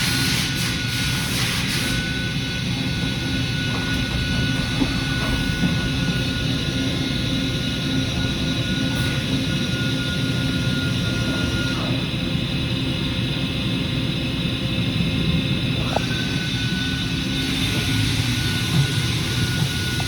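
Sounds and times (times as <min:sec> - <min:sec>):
milling machine running: 0:00.0 - 0:20.0.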